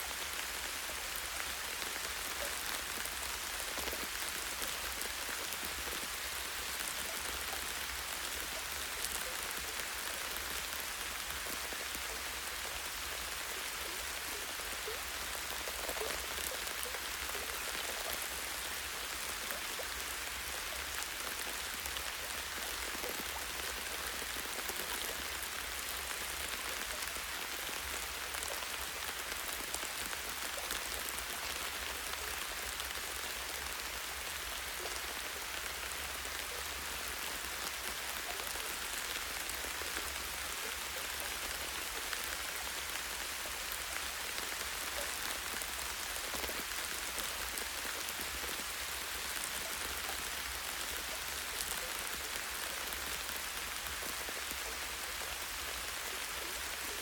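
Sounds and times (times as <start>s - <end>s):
light rain on leaves: 0.0s - 57.0s.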